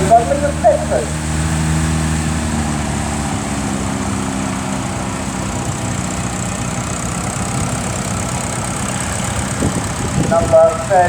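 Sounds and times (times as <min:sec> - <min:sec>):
tractor diesel engine driving by: 0:00.0 - 0:11.0.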